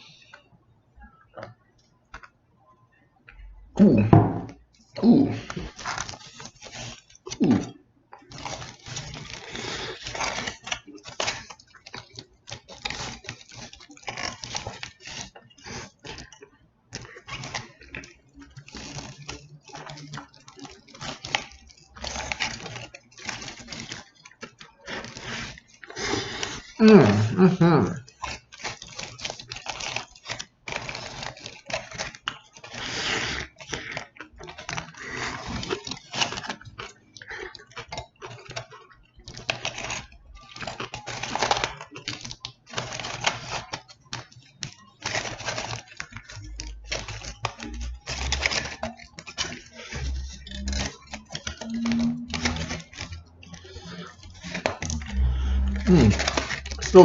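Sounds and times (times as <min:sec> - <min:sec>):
chewing: 0:03.3 - 0:57.0
foil rustling: 0:03.8 - 0:57.0.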